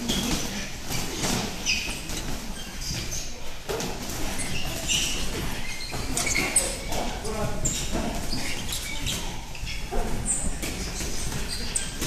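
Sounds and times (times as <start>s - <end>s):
sneakers squeaking on canvas: 0.0s - 12.0s.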